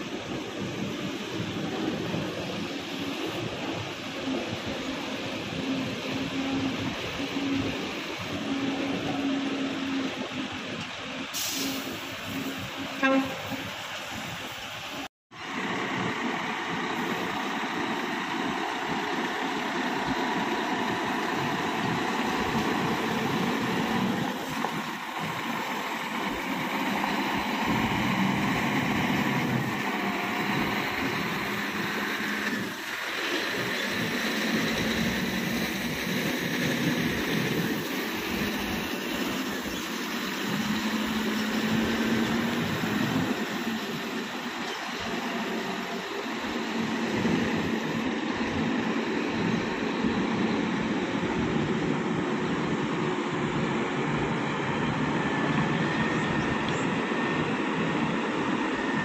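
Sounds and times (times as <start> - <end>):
diesel trucks driving past: 0.0 - 59.0.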